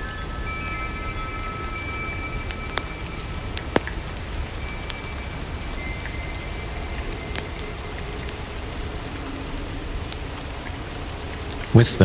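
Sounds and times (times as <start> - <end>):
fire crackling and popping: 0.0 - 12.0
steady rain: 0.0 - 12.0.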